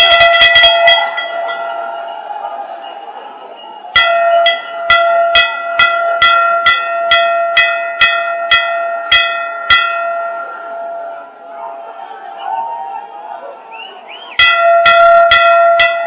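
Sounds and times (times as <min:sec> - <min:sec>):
bell ringing: 0:00.0 - 0:12.4, 0:14.4 - 0:16.0
crowd noise: 0:00.0 - 0:16.0.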